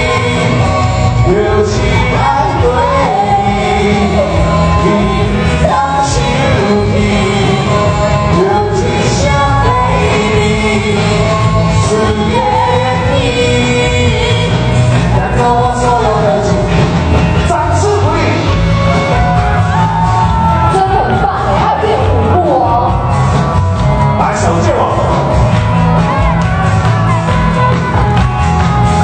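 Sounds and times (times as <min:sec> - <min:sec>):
person singing: 0:00.0 - 0:23.3
live band playing pop song: 0:00.0 - 0:29.0.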